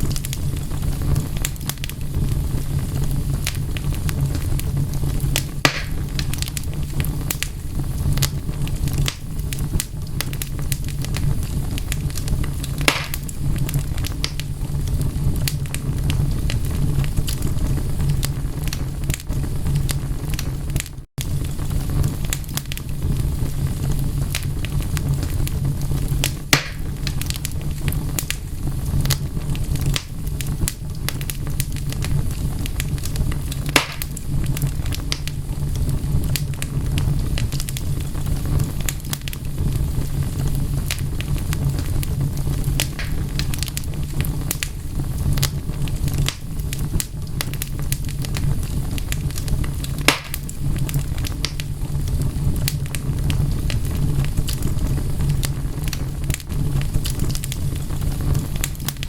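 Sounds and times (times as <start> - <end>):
loud fire pops: 0.0 - 59.0
low rumble: 0.0 - 59.0
wood fire crackling: 0.0 - 59.0.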